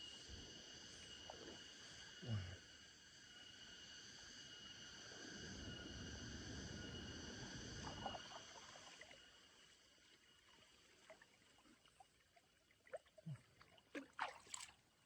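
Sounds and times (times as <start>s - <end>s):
insects trilling: 0.0s - 12.3s.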